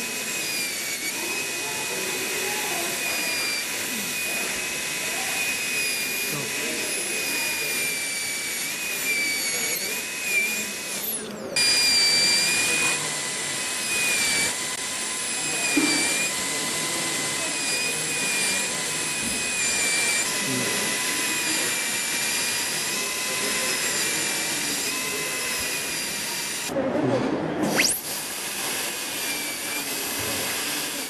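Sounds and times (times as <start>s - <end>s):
dental drill whining: 0.0s - 26.8s, 27.6s - 31.0s.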